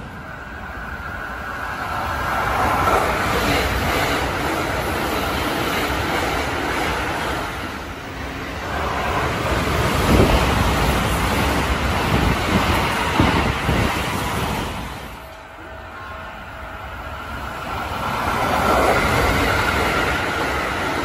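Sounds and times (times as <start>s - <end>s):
trains rumbling and rattling: 0.0s - 21.0s.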